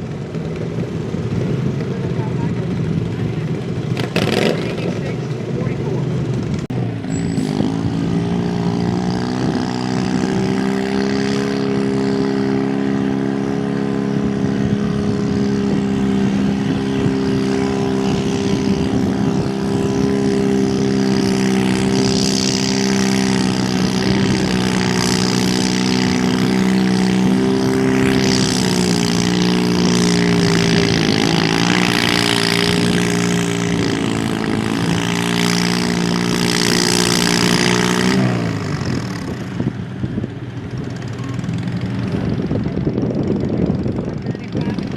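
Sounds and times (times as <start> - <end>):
engine at high revs under load: 0.8 - 5.2, 5.8 - 44.9.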